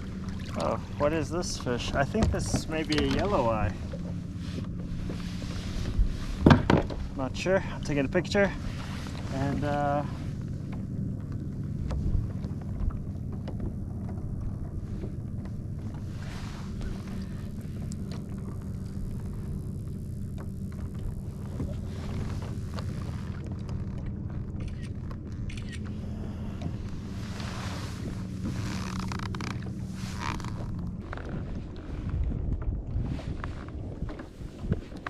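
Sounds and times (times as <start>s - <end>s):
wind and sea rumble: 0.0s - 35.0s.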